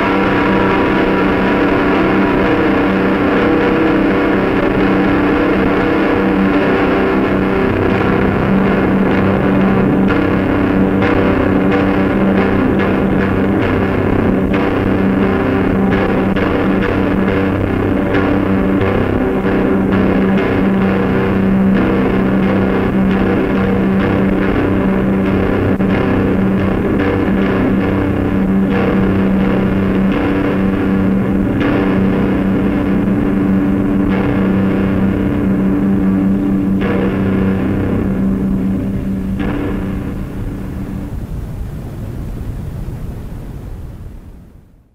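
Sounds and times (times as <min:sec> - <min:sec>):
distorted electric guitar drone: 0:00.0 - 0:42.8
drums: 0:00.0 - 0:43.1.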